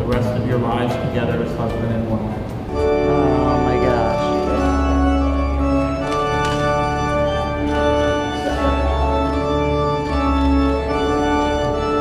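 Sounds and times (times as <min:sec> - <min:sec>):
organ playing slow chords: 0:00.0 - 0:12.0.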